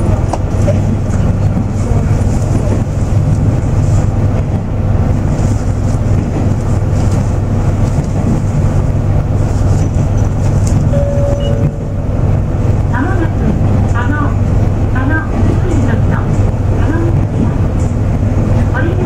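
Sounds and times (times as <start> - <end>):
diesel railcar engine drone: 0.0 - 19.0.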